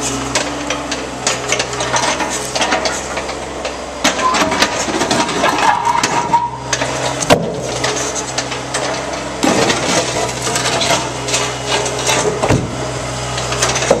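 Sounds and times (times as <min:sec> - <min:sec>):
concrete scraping and grinding: 0:00.0 - 0:12.7
diesel engine running: 0:00.0 - 0:14.0
concrete cracks and knocks: 0:00.4 - 0:12.7.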